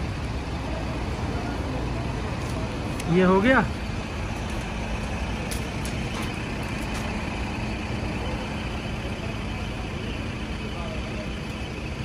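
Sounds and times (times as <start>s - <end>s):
idling engines and traffic hum: 0.0s - 12.0s.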